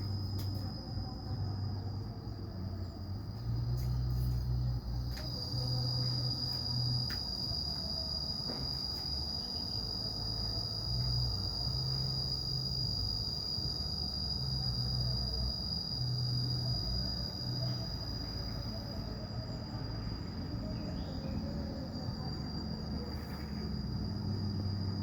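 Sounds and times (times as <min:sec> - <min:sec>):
high-pitched insect trill: 0:00.0 - 0:25.0.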